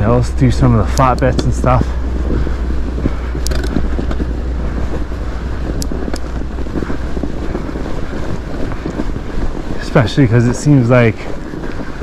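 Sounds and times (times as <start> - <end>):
bike tyres rolling on snow: 0.0 - 12.0
wind rumble on microphone: 0.0 - 12.0.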